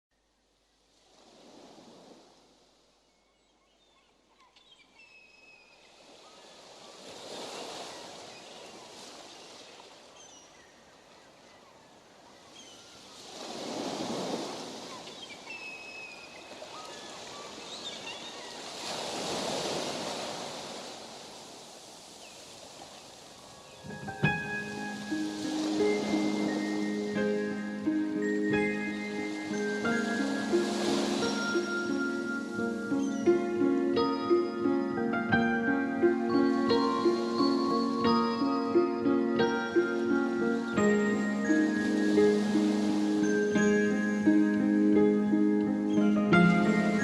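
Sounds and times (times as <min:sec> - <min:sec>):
ocean waves washing in: 0:00.8 - 0:03.0, 0:05.8 - 0:11.3, 0:12.4 - 0:47.0.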